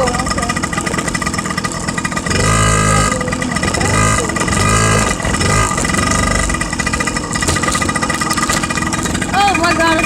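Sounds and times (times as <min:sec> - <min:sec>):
small motorcycle running: 0:00.0 - 0:10.0.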